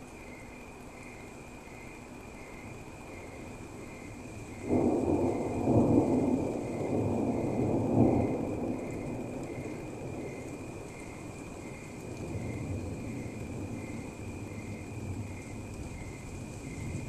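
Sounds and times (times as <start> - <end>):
steady rain hissing: 0.0 - 17.0
thunder rumbling: 3.1 - 17.0.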